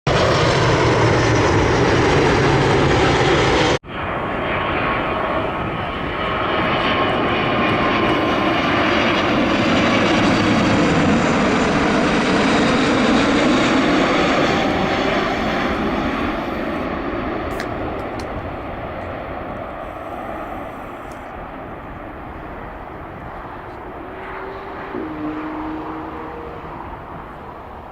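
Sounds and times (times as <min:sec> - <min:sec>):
jet airliner engines passing: 0:00.1 - 0:27.9.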